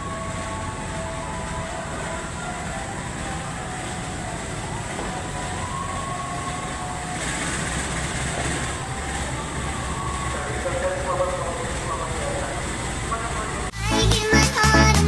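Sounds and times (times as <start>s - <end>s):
train rumbling on rails: 0.0s - 13.9s.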